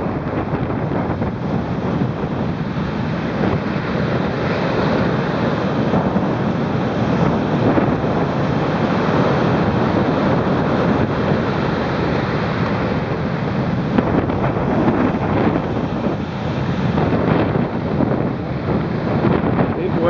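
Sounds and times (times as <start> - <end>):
surf crashing on rocks: 0.0 - 20.0
wind buffeting microphone: 0.0 - 20.0.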